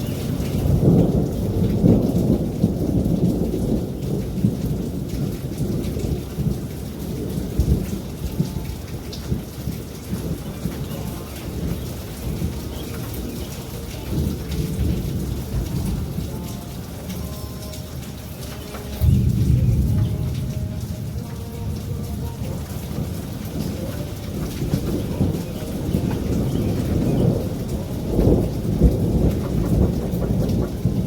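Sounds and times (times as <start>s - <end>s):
rolling thunder: 0.0s - 31.0s
steady rain: 0.0s - 31.0s.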